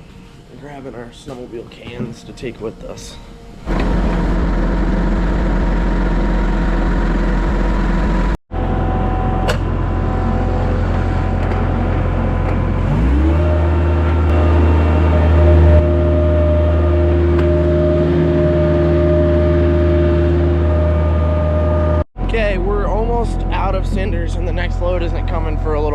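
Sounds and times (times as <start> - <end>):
engine running: 3.5 - 25.9.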